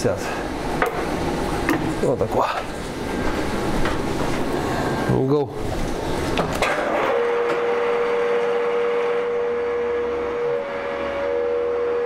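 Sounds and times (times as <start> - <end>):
milling machine whine: 0.4 - 12.0.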